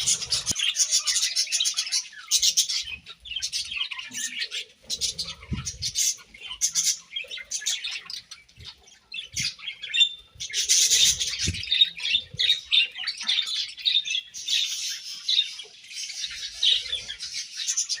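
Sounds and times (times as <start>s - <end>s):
budgerigars chirping and chattering: 0.0s - 18.0s.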